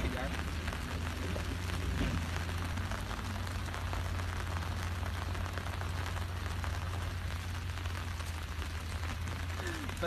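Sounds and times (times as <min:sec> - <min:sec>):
low rumble: 0:00.0 - 0:10.0
rain tapping on umbrellas: 0:00.0 - 0:10.0.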